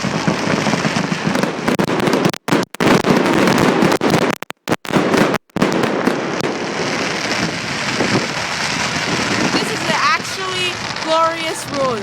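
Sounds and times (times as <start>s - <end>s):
fireworks crackling bangs: 0.0s - 12.0s.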